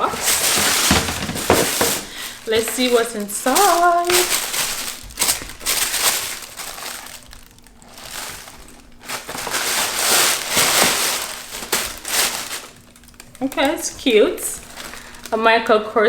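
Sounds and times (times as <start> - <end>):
paper packaging rustling: 0.0 - 16.0.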